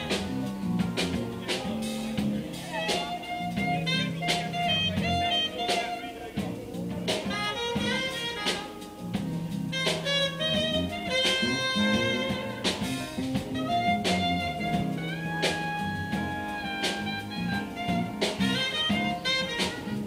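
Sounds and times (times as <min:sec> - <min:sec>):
drum kit: 0:00.0 - 0:20.0
live jazz band: 0:00.0 - 0:20.0
saxophone melody: 0:00.0 - 0:20.0.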